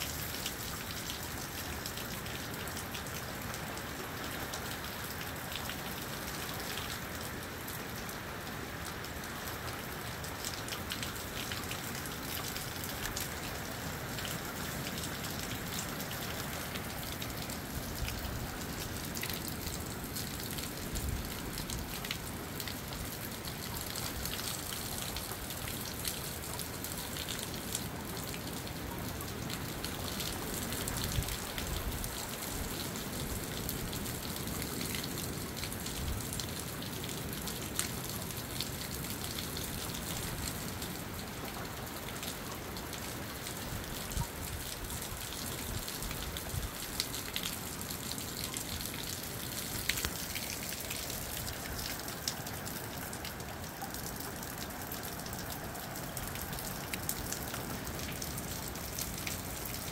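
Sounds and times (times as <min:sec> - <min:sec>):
rain falling: 0:00.0 - 0:59.9
raindrops ticking close by: 0:00.0 - 0:59.9.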